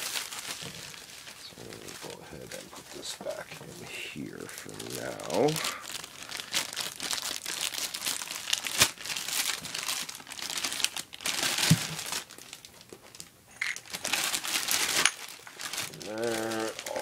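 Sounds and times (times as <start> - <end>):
plastic and bubble wrap crinkling: 0.0 - 17.0.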